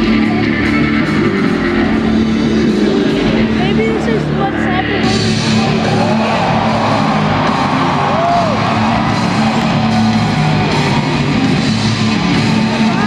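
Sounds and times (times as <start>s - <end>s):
loud rock music over loudspeakers: 0.0s - 13.0s.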